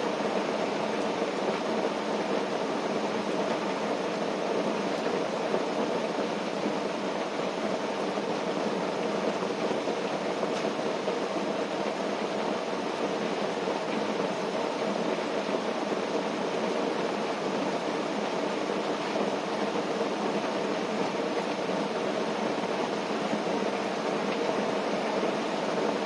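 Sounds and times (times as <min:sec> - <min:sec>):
rain on a tent: 0:00.0 - 0:26.0.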